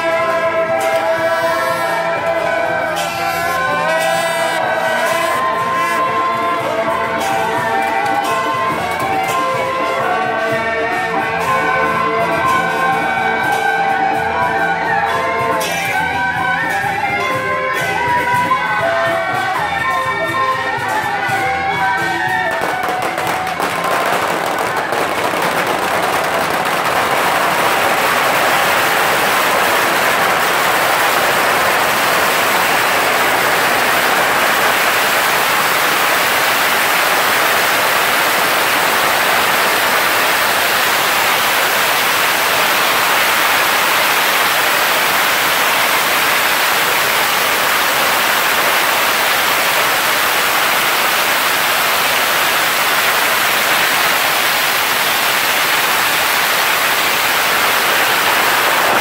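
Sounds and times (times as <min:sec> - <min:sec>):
firecrackers going off: 0:00.0 - 0:59.0.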